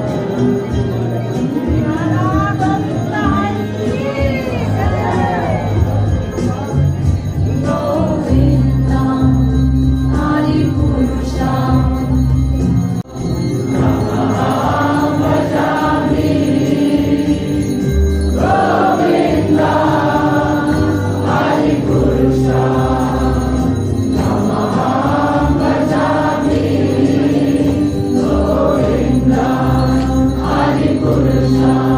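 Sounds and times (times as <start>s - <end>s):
group chanting: 0.0s - 6.0s, 7.5s - 9.4s, 13.7s - 31.9s
bells ringing: 0.0s - 31.9s.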